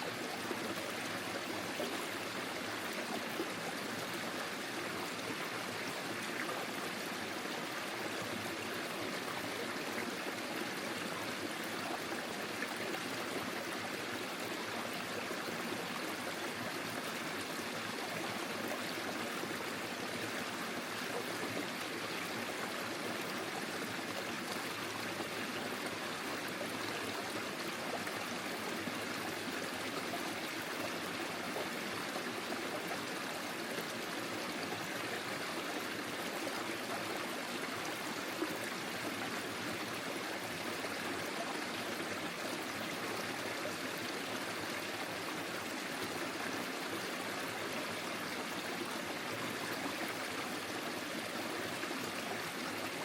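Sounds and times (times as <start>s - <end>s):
stream flowing over stones: 0.0s - 53.0s.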